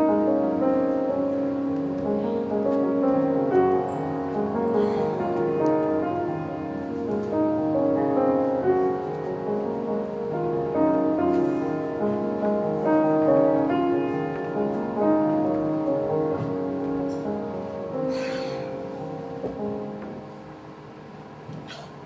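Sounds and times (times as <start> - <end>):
slow instrumental music: 0.0 - 20.8.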